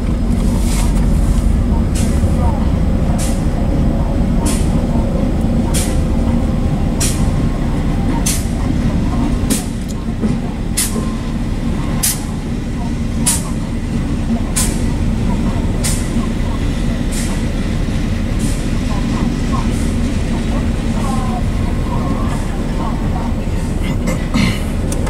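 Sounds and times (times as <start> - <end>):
diesel locomotives rumbling: 0.0 - 25.0.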